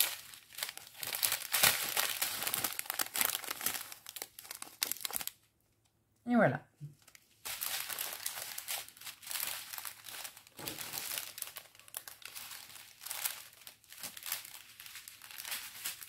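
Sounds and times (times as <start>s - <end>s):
plastic packaging crinkling: 0.0s - 5.5s, 7.0s - 16.0s.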